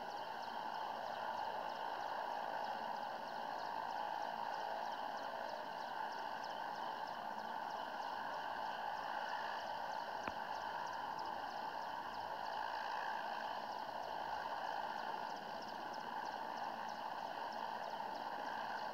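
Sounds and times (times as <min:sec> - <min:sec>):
helicopter engines and rotor: 0:00.0 - 0:18.9.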